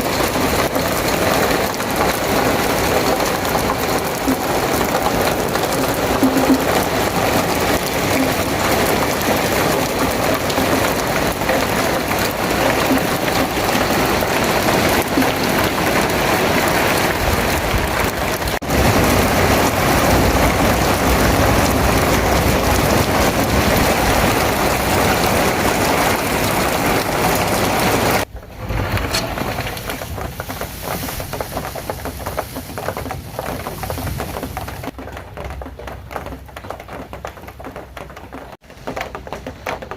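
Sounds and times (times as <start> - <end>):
heavy rain hissing: 0.0 - 35.0
raindrops pattering: 0.0 - 39.9.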